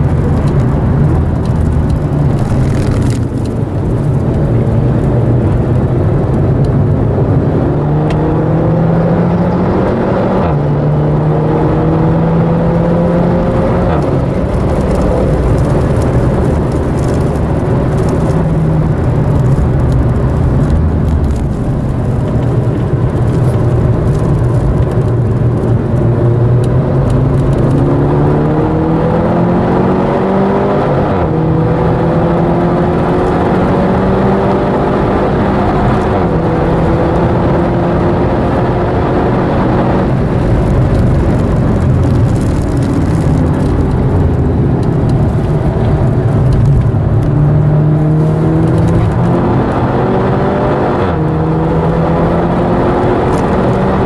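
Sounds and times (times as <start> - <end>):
car engine accelerating and shifting: 0.0 - 54.0
road and tyre noise: 0.0 - 54.0.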